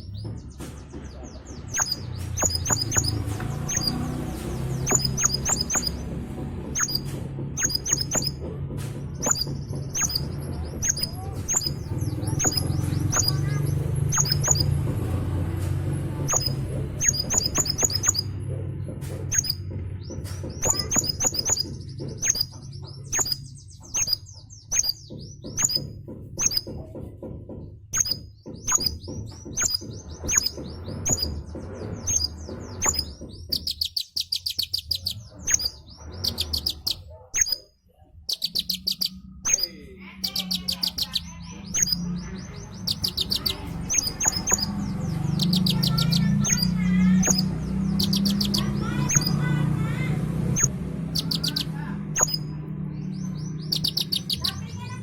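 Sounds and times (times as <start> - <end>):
songbird chirping and trilling: 0.0 - 55.0.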